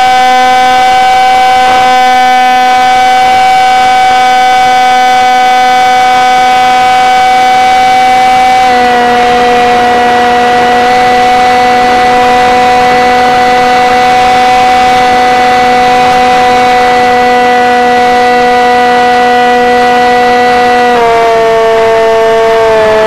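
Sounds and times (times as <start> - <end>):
model airplane motor whine: 0.0 - 23.0.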